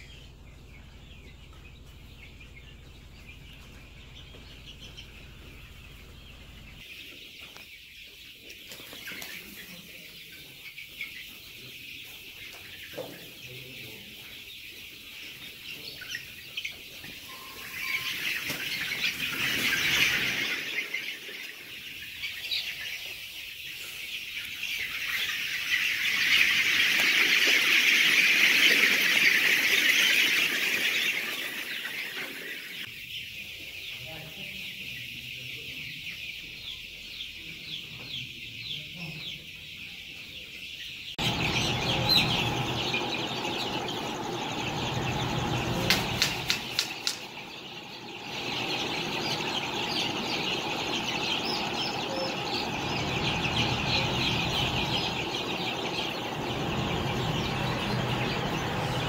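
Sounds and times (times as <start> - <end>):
chickens peeping and clucking: 0.0 - 59.0.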